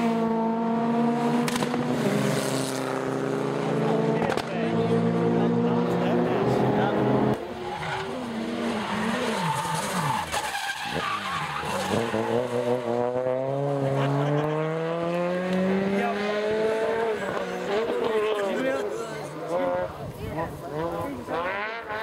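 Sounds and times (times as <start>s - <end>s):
rally car engine revving: 0.0s - 22.0s
tyres skidding: 1.3s - 22.0s.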